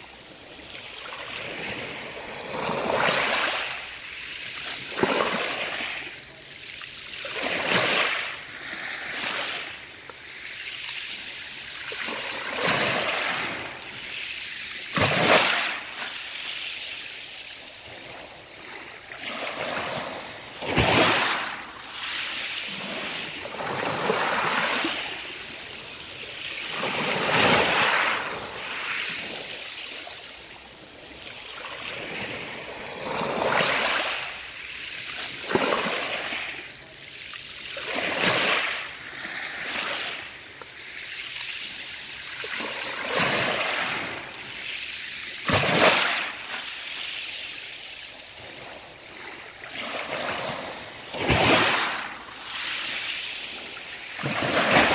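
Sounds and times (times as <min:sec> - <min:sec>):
small waves on pebble beach: 0:00.0 - 0:54.9.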